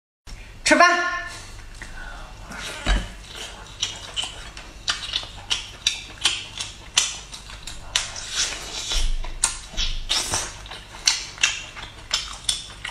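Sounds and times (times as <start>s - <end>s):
person chewing: 1.3s - 12.9s.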